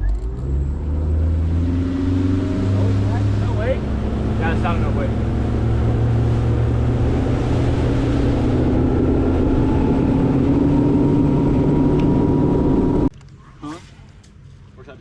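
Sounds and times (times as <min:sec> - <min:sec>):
boat motor running: 0:00.8 - 0:13.1.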